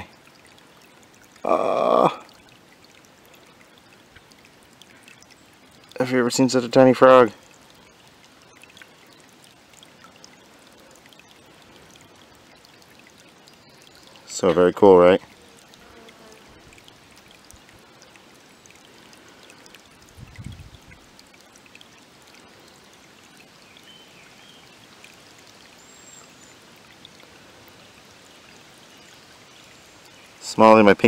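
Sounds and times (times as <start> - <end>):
water trickling: 0.0 - 31.0.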